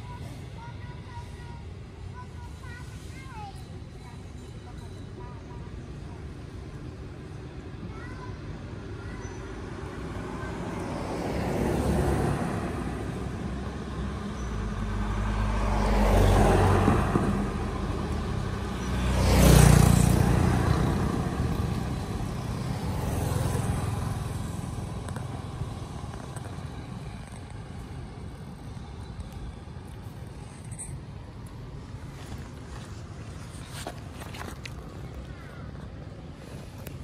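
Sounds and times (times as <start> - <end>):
vehicles passing by: 0.0 - 37.0.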